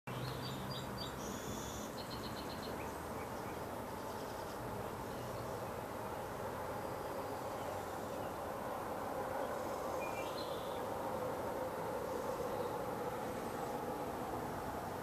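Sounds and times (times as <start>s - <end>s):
small birds chirping and twittering: 0.1s - 14.0s
outdoor background noise: 0.1s - 15.0s.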